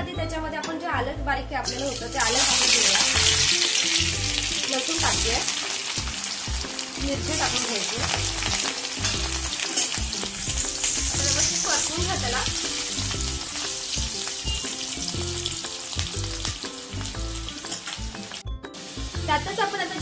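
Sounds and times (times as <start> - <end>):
food sizzling in hot oil: 1.6 - 20.0.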